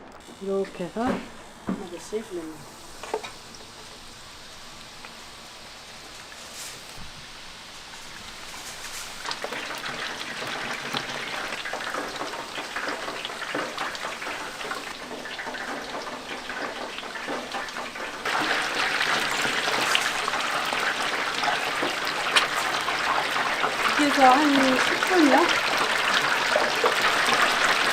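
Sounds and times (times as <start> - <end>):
food sizzling in deep-frying oil: 0.1 - 27.9.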